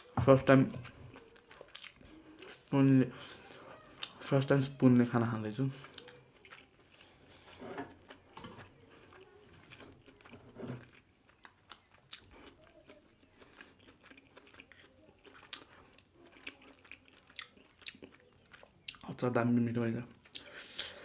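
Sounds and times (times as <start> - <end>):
close chewing and biting: 0.0 - 4.3, 5.6 - 19.2, 20.1 - 21.0.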